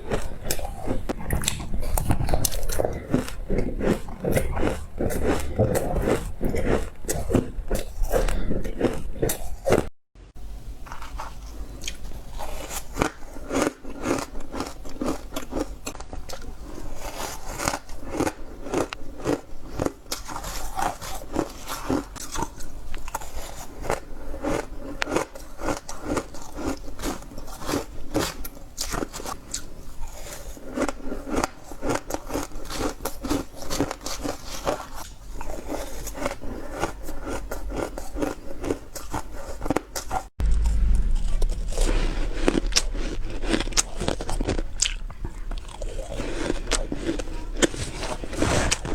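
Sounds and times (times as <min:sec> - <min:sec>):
ice being bitten and crunched: 0:00.0 - 0:09.9, 0:11.8 - 0:40.3, 0:42.4 - 0:48.9.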